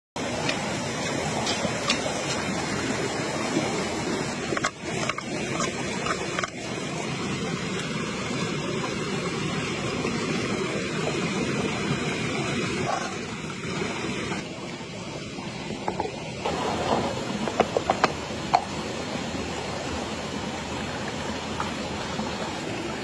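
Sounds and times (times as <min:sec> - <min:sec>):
running water rushing: 0:00.2 - 0:23.0.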